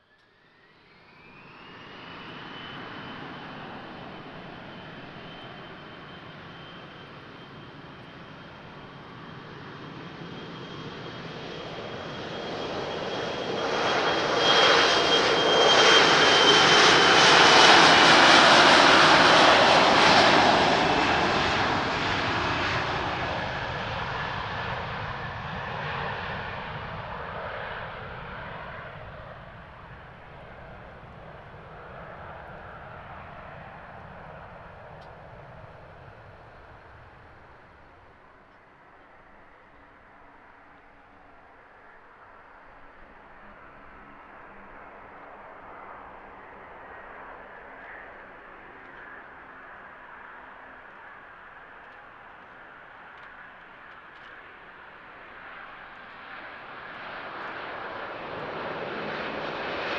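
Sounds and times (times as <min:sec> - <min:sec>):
jet engine whine: 0:00.0 - 0:59.9
jet taking off: 0:00.3 - 0:40.7, 0:41.8 - 0:59.9.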